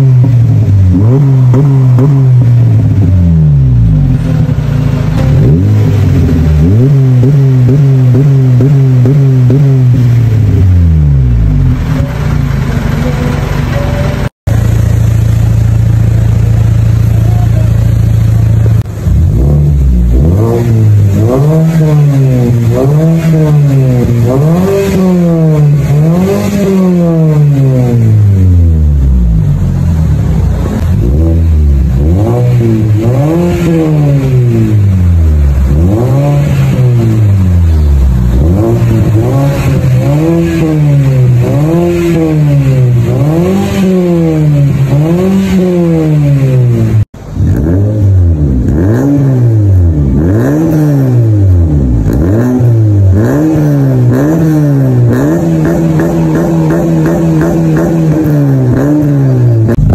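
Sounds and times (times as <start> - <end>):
another car exhaust revving: 0.0 - 59.9
car engine idling and revving: 0.0 - 59.9.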